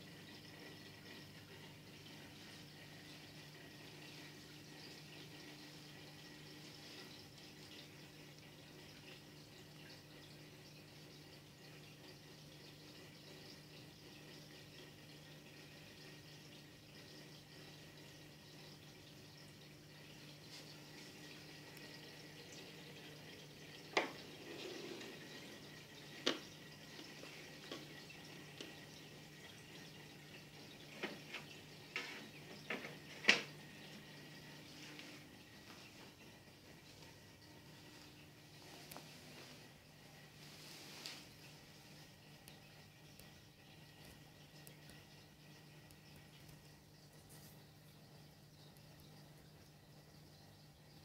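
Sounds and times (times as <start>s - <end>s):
aquarium equipment hum: 0.0s - 51.0s.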